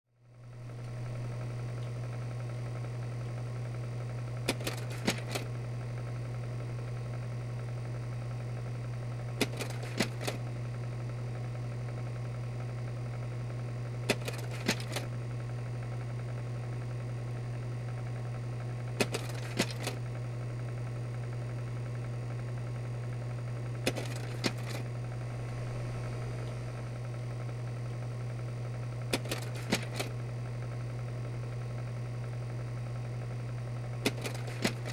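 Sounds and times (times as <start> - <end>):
projector motor and fan hum: 0.2 - 34.9.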